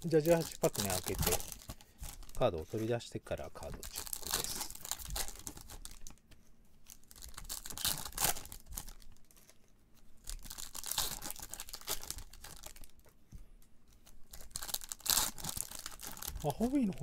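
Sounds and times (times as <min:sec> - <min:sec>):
foil wrappers tearing and crinkling: 0:00.0 - 0:02.9, 0:03.6 - 0:06.2, 0:06.9 - 0:13.1, 0:14.0 - 0:17.0.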